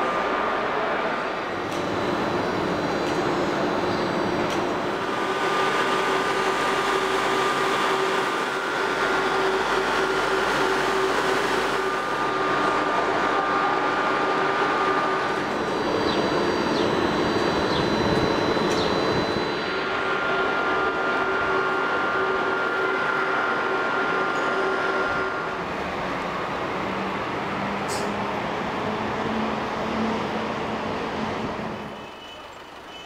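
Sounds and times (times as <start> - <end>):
electric trains humming: 0.0 - 33.0.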